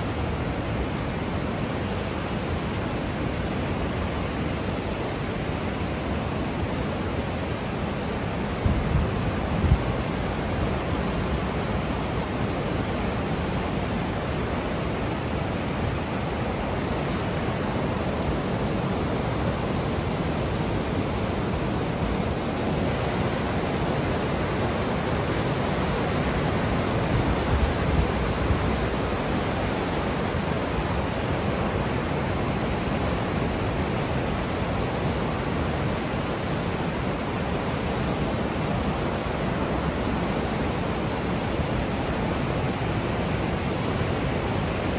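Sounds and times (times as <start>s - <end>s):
whitewater rapids roaring: 0.0s - 44.9s.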